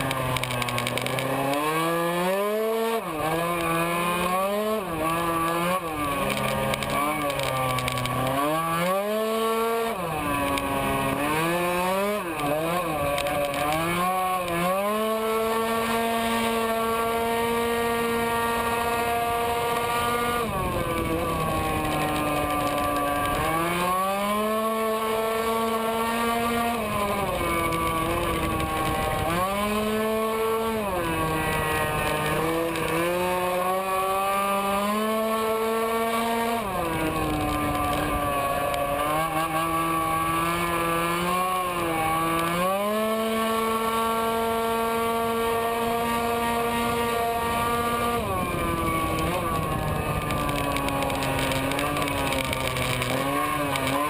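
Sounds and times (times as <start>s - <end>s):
scooter engine at high revs: 0.0s - 54.0s.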